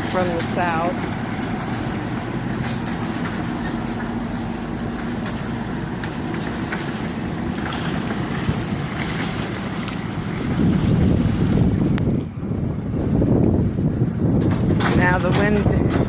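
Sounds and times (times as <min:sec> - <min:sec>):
faint engine hum: 0:00.0 - 0:16.0
low rumble: 0:00.0 - 0:16.0
wind buffeting microphone: 0:00.0 - 0:16.0.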